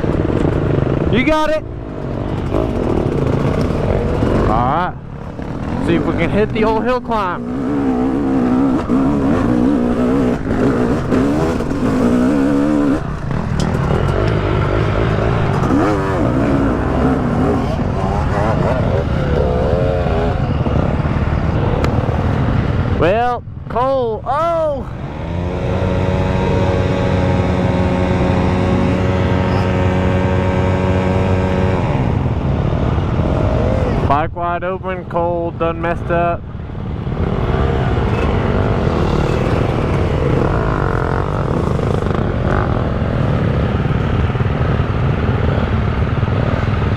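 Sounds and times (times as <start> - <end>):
dirt bike engine revving: 0.0 - 22.9, 24.9 - 34.1, 36.8 - 46.8.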